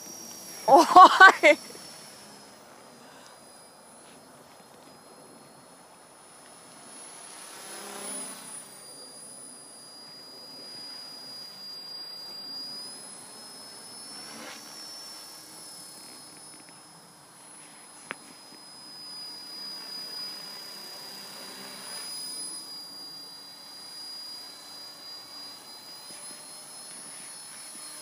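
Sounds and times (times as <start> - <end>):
model helicopter motor whine: 0.0 - 28.0.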